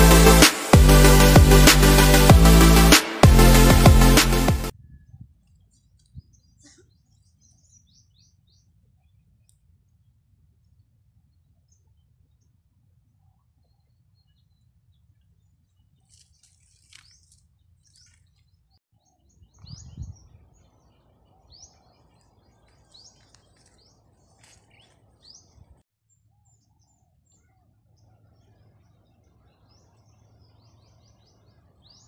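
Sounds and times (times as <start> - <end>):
small birds chirping: 4.8 - 12.6, 13.2 - 32.0.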